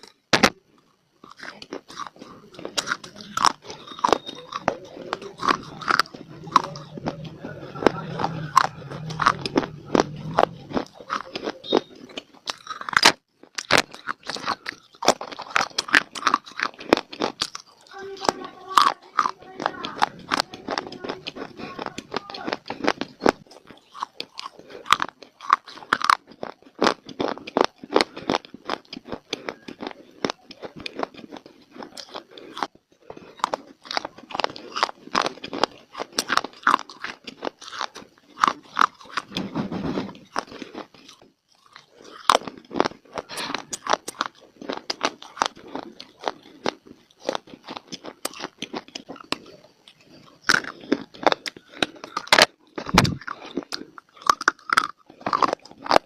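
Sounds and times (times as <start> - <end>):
crunchy chewing of baked clay: 0.0 - 56.0.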